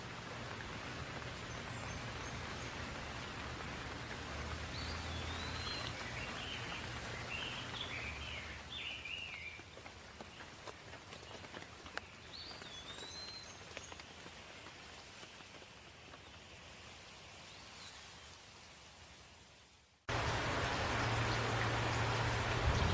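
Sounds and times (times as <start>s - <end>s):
raindrops striking a surface: 0.0s - 18.4s, 19.6s - 22.9s
light rain hissing: 0.0s - 22.9s.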